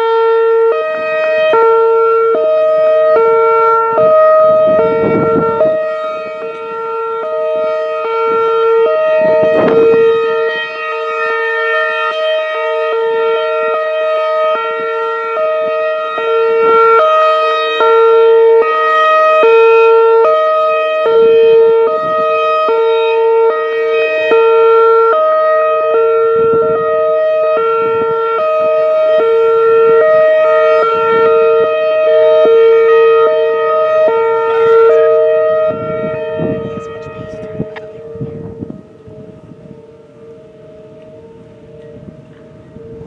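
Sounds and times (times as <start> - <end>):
two-tone warning siren: 0.0 - 43.0.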